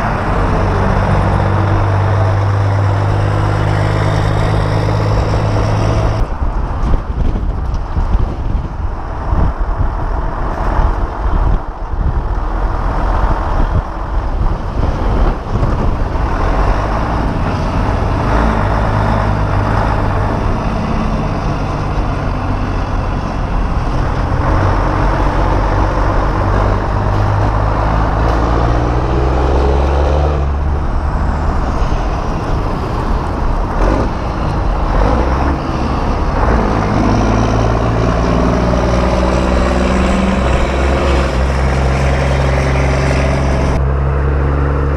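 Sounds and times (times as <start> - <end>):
truck diesel engine running: 0.0 - 9.4, 10.0 - 44.5
wind buffeting microphone: 0.0 - 44.9.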